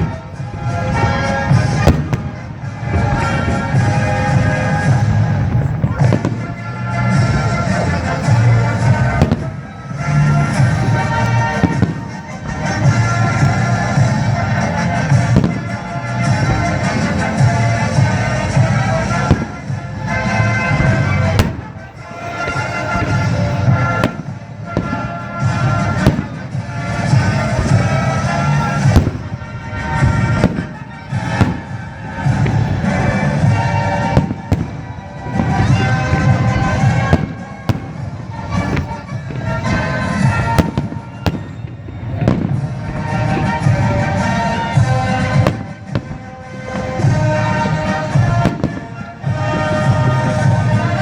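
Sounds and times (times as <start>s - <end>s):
firework bangs: 0.0s - 51.0s
fireworks crackling: 0.0s - 51.0s
music: 0.0s - 51.0s.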